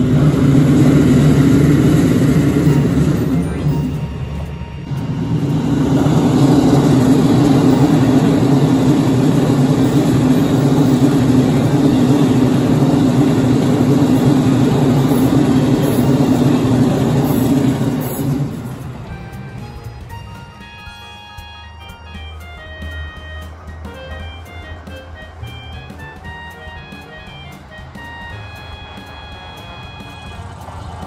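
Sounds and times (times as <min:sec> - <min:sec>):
diesel train passing: 0:00.0 - 0:31.0.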